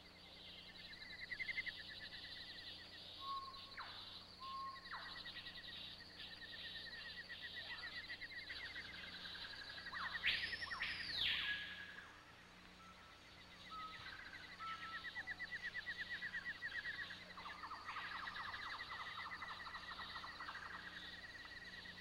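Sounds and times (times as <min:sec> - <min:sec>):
whistled bird calls: 0:00.6 - 0:12.1, 0:12.8 - 0:22.0.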